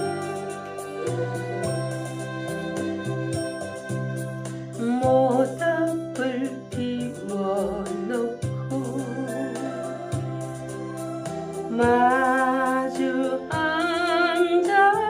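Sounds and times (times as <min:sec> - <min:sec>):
wavering lead melody: 0:00.0 - 0:06.2, 0:06.8 - 0:13.5
electronic organ chords: 0:00.0 - 0:14.4.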